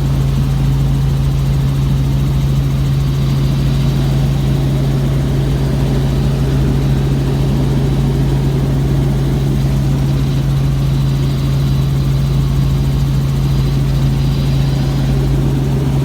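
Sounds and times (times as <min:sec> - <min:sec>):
helicopter engine and rotors: 0:00.0 - 0:16.0.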